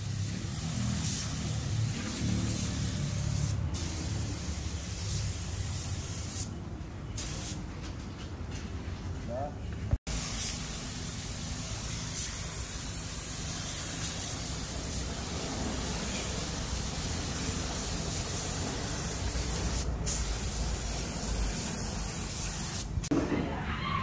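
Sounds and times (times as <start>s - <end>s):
spray gun hissing: 0.0s - 6.5s, 7.2s - 7.6s, 10.1s - 23.1s.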